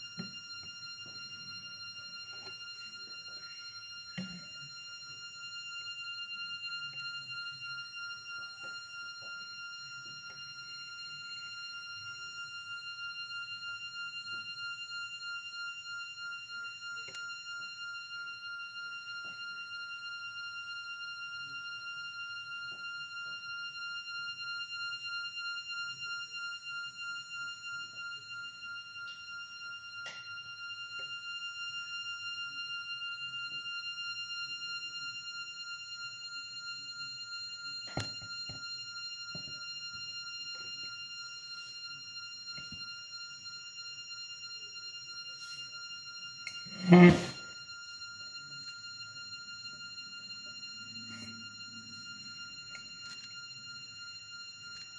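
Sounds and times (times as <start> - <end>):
high-pitched pulsing ringing tone: 0.0 - 54.9.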